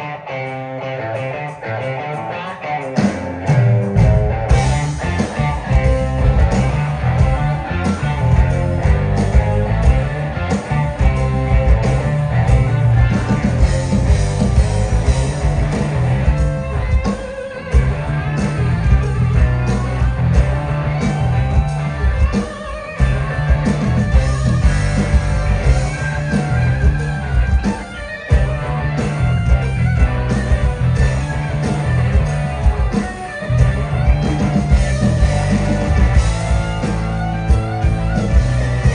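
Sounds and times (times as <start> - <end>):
blues-rock band playing: 0.0 - 38.9
electric guitar lead: 0.0 - 38.9.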